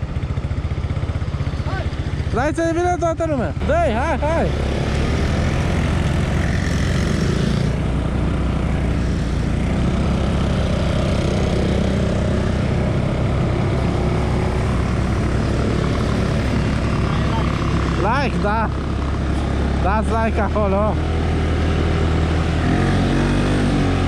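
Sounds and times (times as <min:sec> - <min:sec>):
atv engines running: 0:00.0 - 0:24.0.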